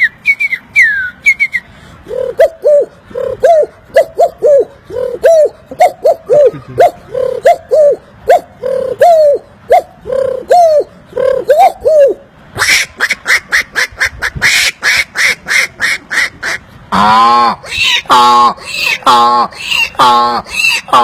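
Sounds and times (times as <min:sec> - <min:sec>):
man imitating bird calls: 0:00.0 - 0:21.0.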